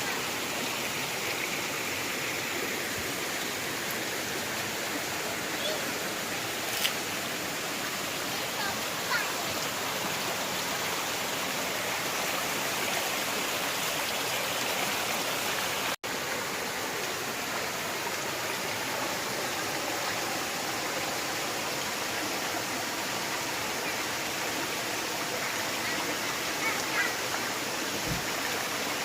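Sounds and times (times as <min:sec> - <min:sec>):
forest stream rushing: 0:00.0 - 0:29.0.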